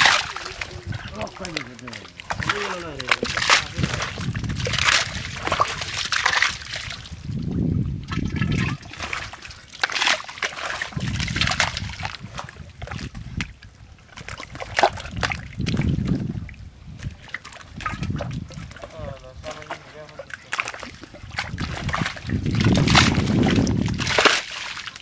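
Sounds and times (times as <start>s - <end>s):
muddy water sloshing and splashing: 0.0s - 25.0s.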